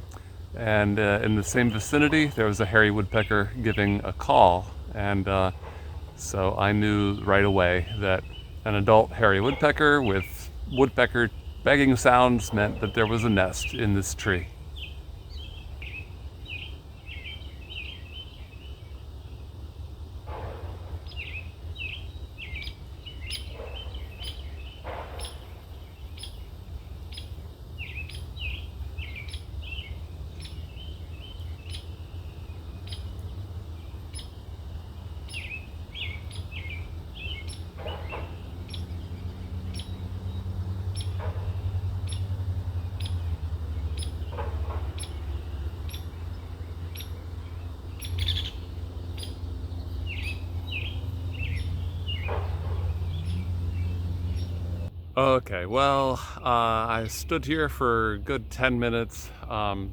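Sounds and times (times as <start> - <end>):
steady low rumble: 0.0 - 17.4, 25.8 - 59.9
nestlings chirping: 0.0 - 19.0, 21.1 - 54.9
bird calls: 0.0 - 19.6, 20.2 - 54.9, 55.7 - 59.9.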